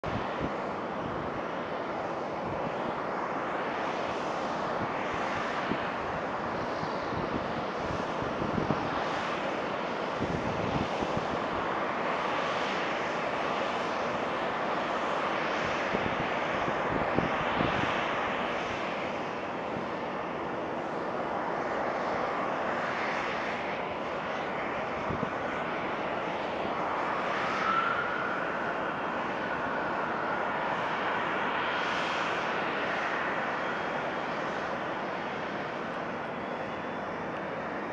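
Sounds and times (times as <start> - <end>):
jet engine whine: 0.0 - 37.9.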